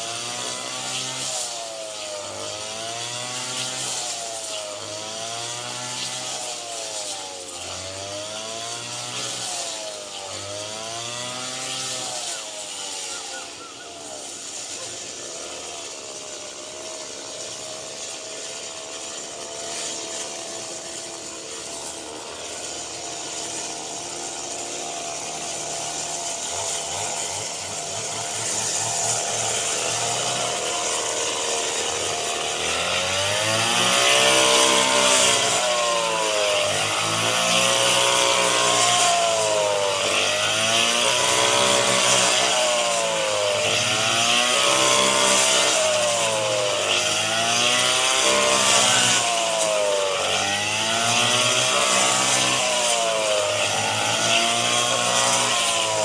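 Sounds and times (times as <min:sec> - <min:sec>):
small engine running under load: 0:00.0 - 0:56.0.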